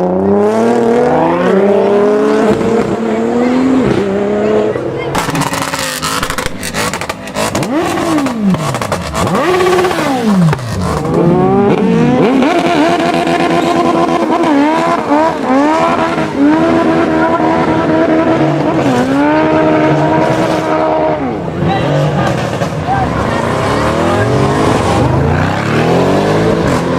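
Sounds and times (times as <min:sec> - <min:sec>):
car engine revving and accelerating: 0:00.0 - 0:26.9.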